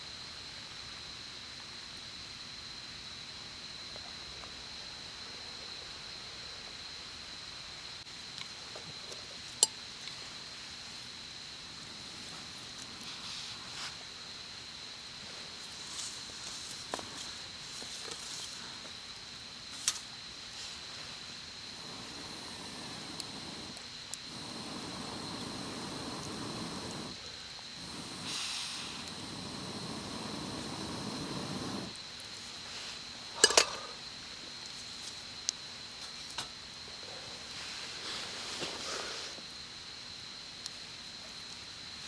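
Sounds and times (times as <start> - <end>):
rustling hiss: 2.8 - 42.0.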